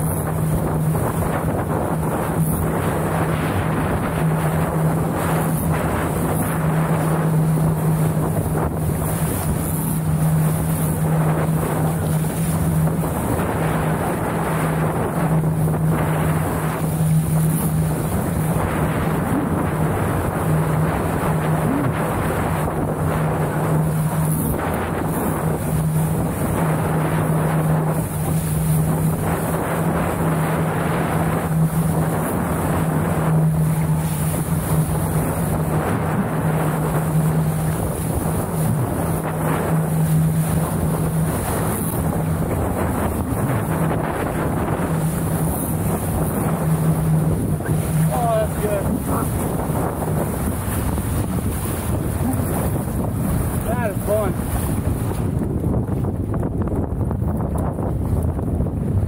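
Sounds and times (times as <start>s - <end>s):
water rushing past boat: 0.0s - 59.0s
wind buffeting microphone: 0.0s - 59.0s.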